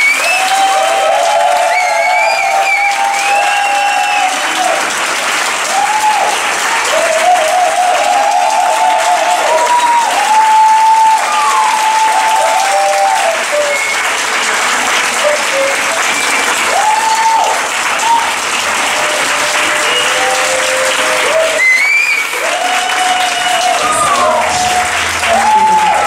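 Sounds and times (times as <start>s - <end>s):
audience applauding: 0.0s - 26.0s
crowd calling and cheering: 0.0s - 26.0s.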